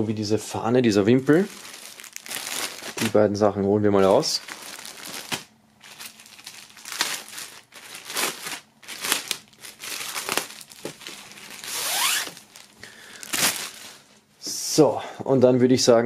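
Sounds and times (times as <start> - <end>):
plastic bag crinkling: 1.0 - 14.2.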